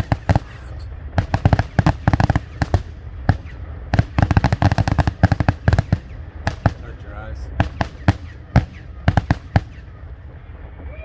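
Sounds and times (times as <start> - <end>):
fireworks cracks and bangs: 0.0 - 10.3.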